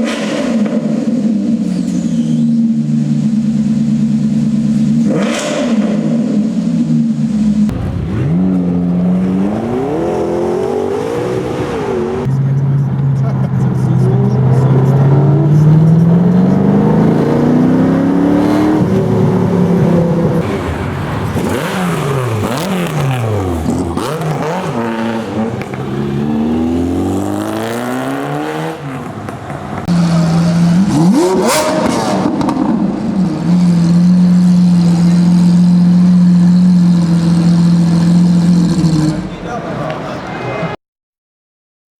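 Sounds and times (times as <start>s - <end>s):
supercar engines revving: 0.0s - 40.8s.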